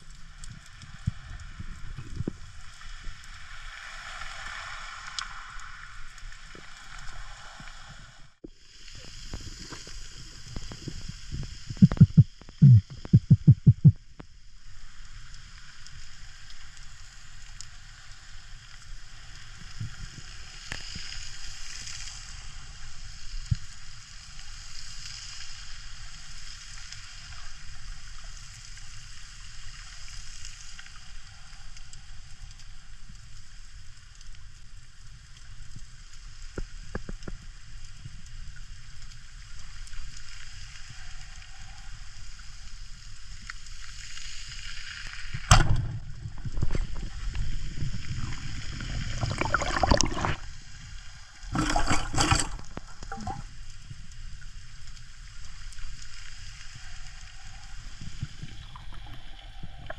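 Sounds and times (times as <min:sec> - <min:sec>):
underwater hiss and rumble: 0:00.0 - 0:59.9.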